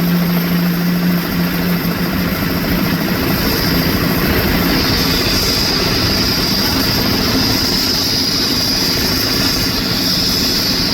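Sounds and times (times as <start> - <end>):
constant low rumble: 0.0 - 10.9
high jet whine: 0.0 - 10.9.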